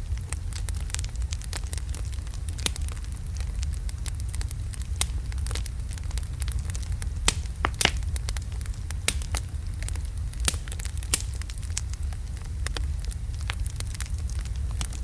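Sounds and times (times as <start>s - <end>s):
wood logs burning crackling: 0.0s - 15.0s.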